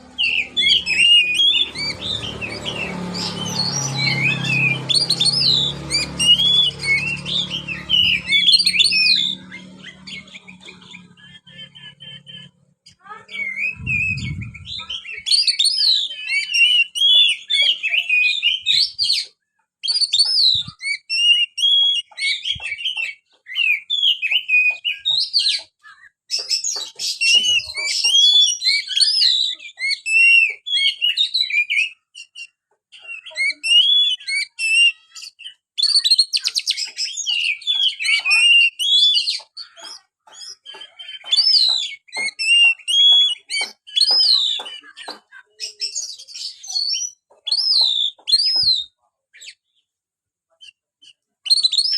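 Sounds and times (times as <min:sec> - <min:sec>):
bird singing whistles and chirps: 0:00.0 - 0:12.5, 0:13.3 - 0:25.7, 0:26.4 - 0:49.6, 0:50.6 - 0:51.9.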